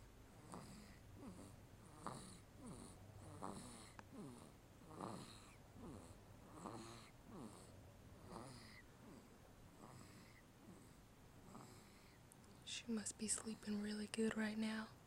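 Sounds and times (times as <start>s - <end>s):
baby snoring faintly: 0.3s - 13.9s.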